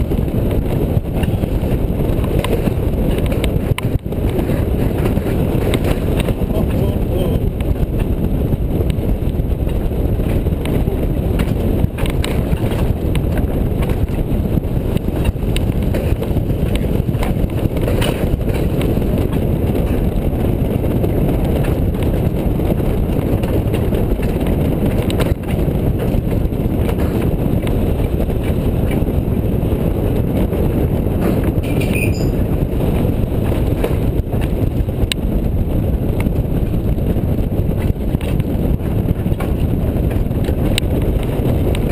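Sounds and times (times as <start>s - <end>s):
wheels rumbling on rails: 0.0s - 41.9s.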